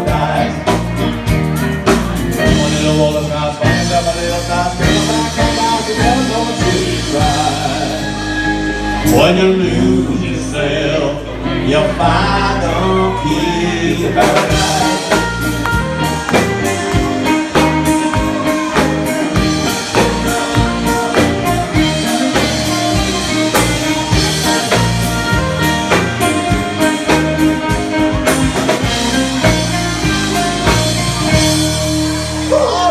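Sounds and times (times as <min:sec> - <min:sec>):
drum kit steady beat: 0:00.0 - 0:09.3, 0:14.0 - 0:32.9
amplified electric guitar: 0:00.0 - 0:32.9.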